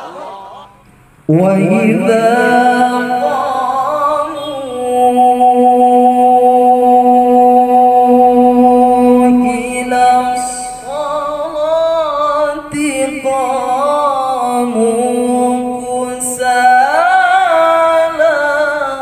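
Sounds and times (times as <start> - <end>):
man chanting recitation into microphone: 1.2 - 19.0.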